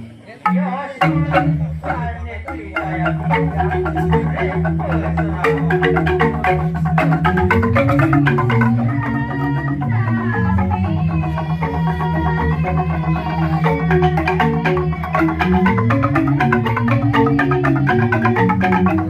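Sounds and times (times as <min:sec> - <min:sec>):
bamboo xylophone notes: 0:00.0 - 0:19.0.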